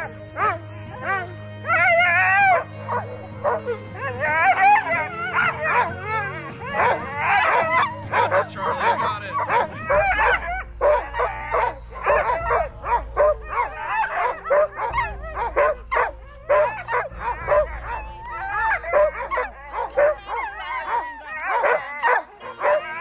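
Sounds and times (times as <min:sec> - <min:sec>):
sled dogs yipping and howling: 0:00.0 - 0:23.0.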